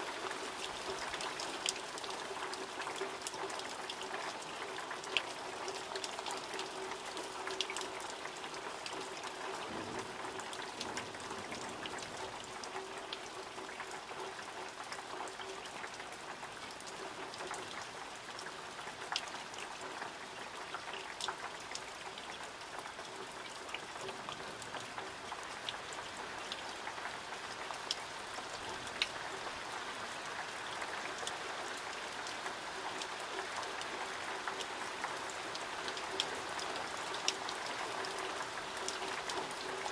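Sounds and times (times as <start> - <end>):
raindrops tapping surfaces: 0.0 - 39.9
steady rain falling: 0.0 - 39.9.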